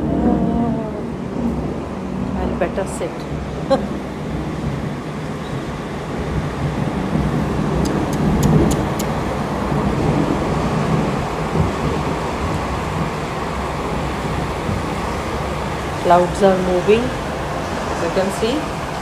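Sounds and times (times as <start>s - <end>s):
highway traffic noise: 0.0s - 19.0s.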